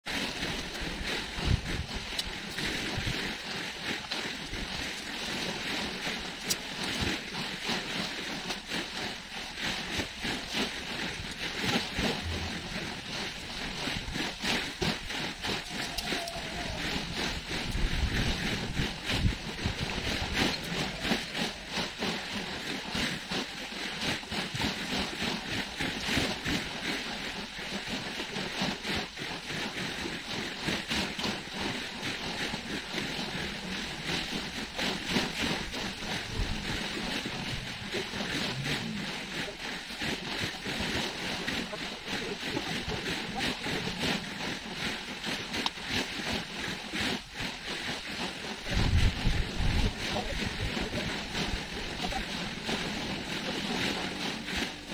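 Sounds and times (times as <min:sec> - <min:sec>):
small waves washing on shore: 0:00.0 - 0:54.9
tent fabric rustling and crackling: 0:00.0 - 0:54.9
wind on microphone: 0:00.0 - 0:54.9.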